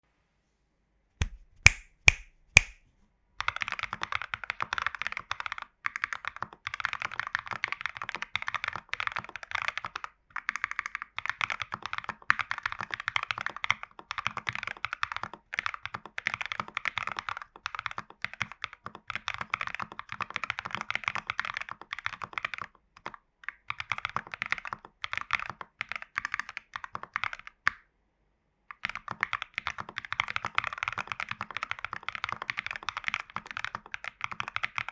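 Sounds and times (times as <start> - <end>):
mechanical keyboard typing: 3.4 - 27.6, 28.7 - 34.9.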